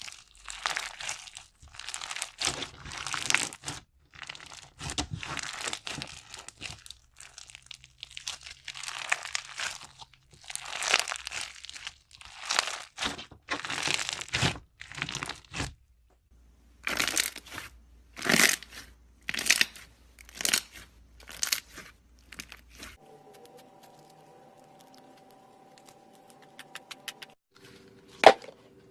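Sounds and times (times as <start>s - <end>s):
slime squelching by hand: 0.0s - 15.8s, 16.8s - 28.9s.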